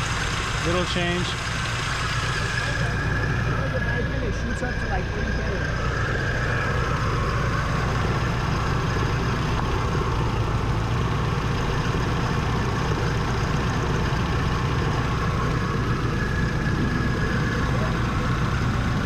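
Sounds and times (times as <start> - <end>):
engine running with misfire: 0.0 - 19.0.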